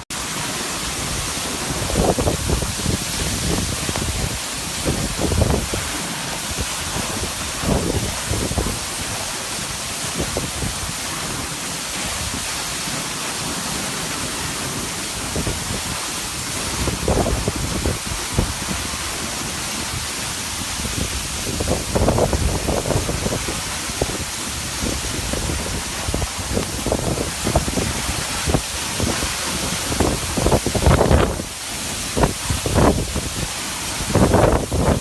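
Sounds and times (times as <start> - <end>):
heavy downpour: 0.0 - 35.0
rushing water: 0.0 - 35.0
wind buffeting microphone: 1.0 - 9.3, 15.2 - 35.0.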